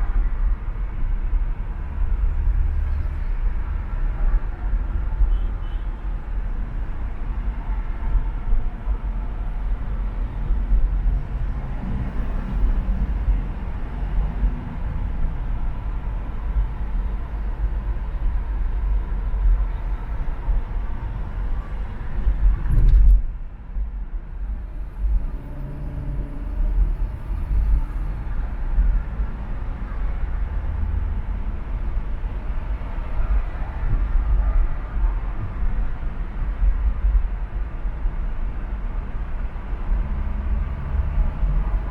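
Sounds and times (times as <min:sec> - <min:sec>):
tyre and traffic rumble: 0:00.0 - 0:41.9.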